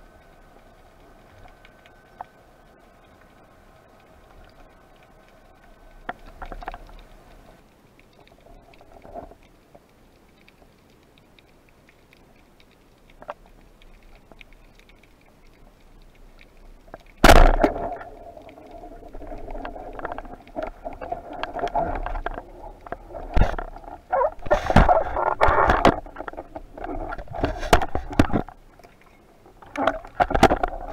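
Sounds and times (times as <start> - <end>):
faint underwater clicks and knocks: 0.0 - 30.9.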